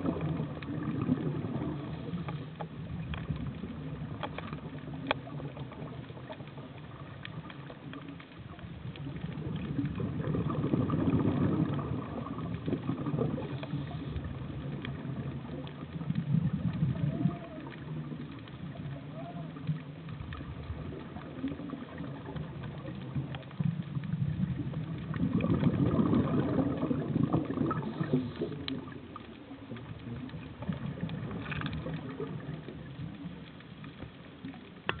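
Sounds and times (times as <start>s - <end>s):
steady underwater hiss: 0.0s - 35.0s.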